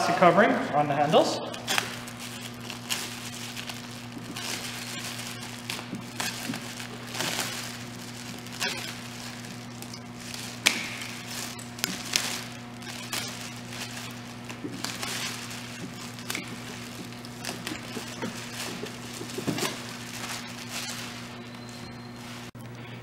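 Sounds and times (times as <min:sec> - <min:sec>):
plastic wrapping crinkling: 0:01.4 - 0:22.5.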